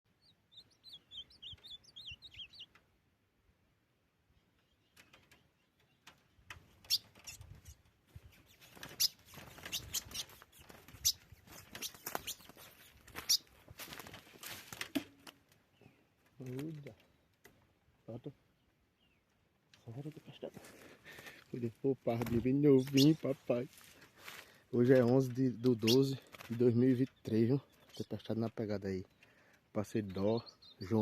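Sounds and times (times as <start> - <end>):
bird chirping: 0.1 - 3.0, 4.0 - 13.6, 15.6 - 20.4, 21.1 - 23.7, 24.7 - 31.0.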